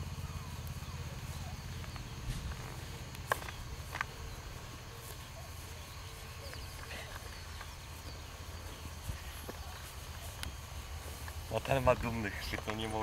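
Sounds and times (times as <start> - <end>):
faint high chirps: 0.0 - 11.2.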